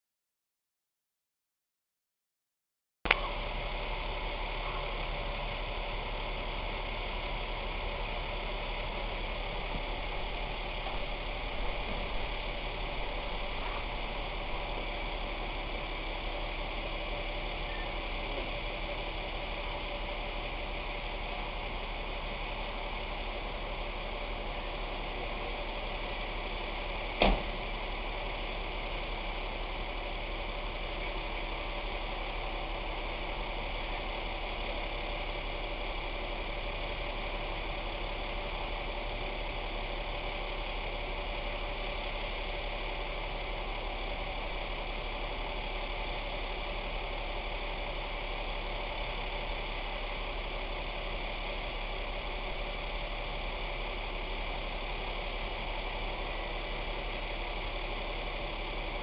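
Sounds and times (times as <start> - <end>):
truck engine idling: 3.1 - 59.0.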